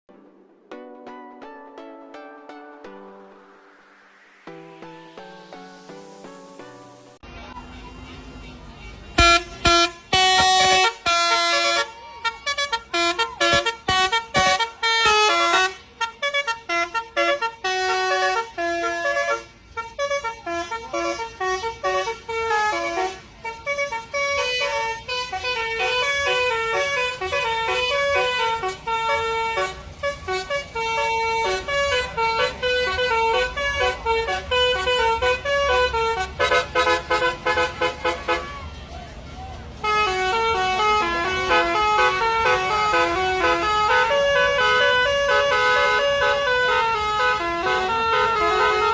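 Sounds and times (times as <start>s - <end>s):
bus air horn playing a tune: 5.0s - 6.2s, 7.0s - 38.8s, 39.8s - 48.9s.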